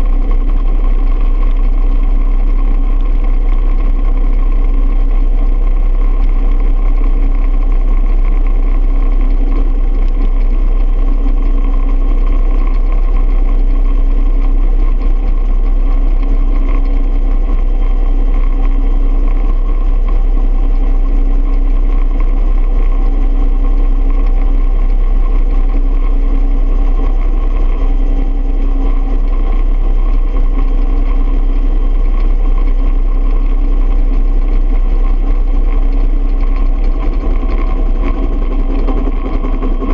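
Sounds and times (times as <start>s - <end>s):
helicopter drone: 0.0s - 39.9s
helicopter whine: 0.0s - 39.9s.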